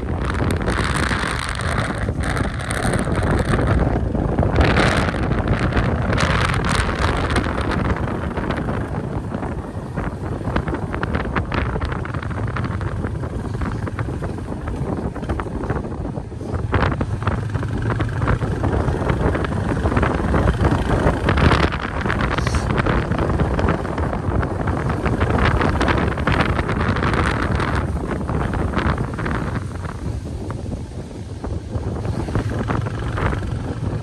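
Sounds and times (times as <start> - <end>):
motorcycle engine running: 0.0 - 34.0
tyres on road: 0.0 - 34.0
wind buffeting microphone: 0.0 - 34.0.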